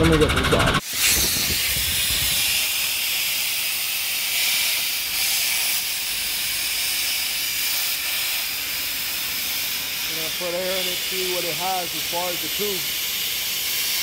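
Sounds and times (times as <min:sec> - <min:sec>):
compressed air hissing from nozzle: 0:00.8 - 0:14.0.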